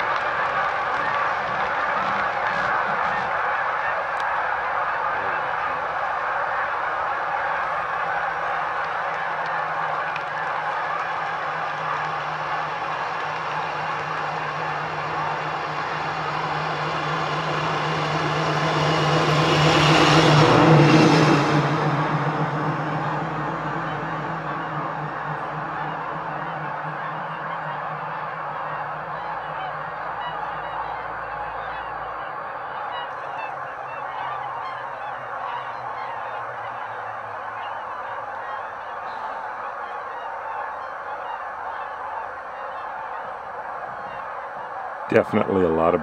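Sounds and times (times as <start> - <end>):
swans and geese honking: 0.0 - 46.0
vehicle engine drone passing: 0.0 - 46.0.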